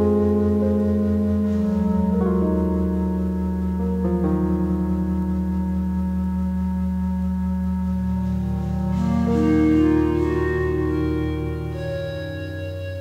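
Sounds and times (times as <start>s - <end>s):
ambient synthesizer chords: 0.0s - 13.0s.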